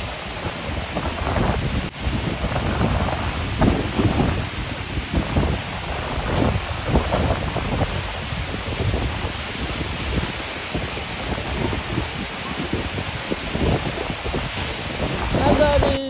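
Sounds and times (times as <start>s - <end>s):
waterfall rushing onto rocks: 0.0s - 16.0s
wind gusts on microphone: 0.0s - 16.0s.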